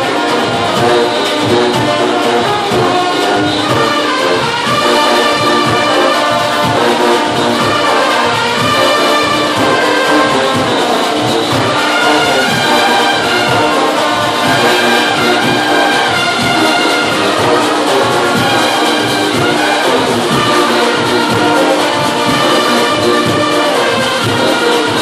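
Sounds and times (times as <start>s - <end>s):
brass section playing a tune: 0.0s - 25.0s
loud drum beat: 0.0s - 25.0s.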